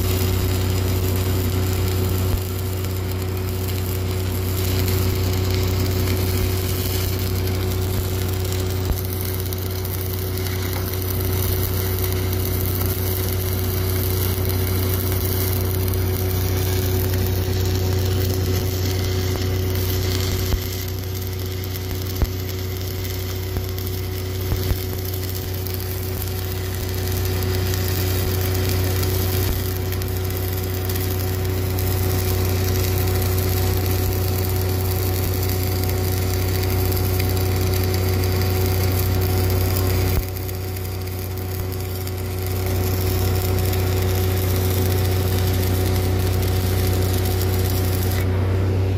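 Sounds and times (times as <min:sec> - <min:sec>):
welding arc crackling hiss: 0:00.0 - 0:48.3
welder engine drone: 0:00.0 - 0:48.9.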